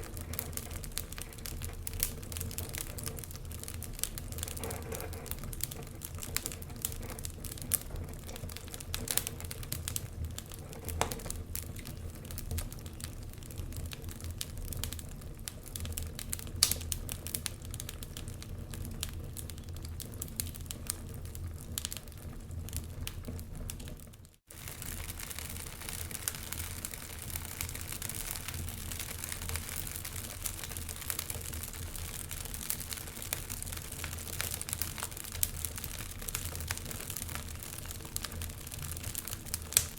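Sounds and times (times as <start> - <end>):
low steady fire rumble: 0.0 - 39.9
wood fire crackling and popping: 0.0 - 39.9.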